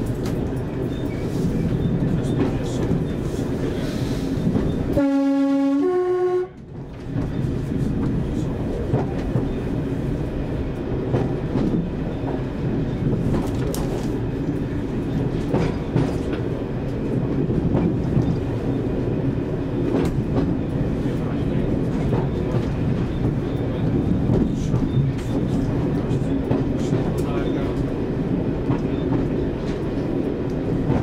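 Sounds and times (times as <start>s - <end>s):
train diesel engine drone: 0.0s - 31.0s.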